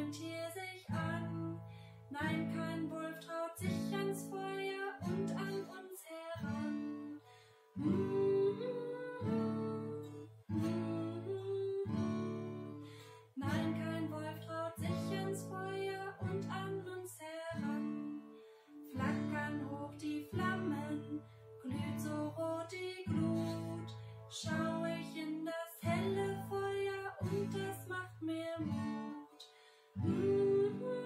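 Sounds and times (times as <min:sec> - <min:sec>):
strummed acoustic guitar: 0:00.0 - 0:31.0
woman singing: 0:00.0 - 0:31.0.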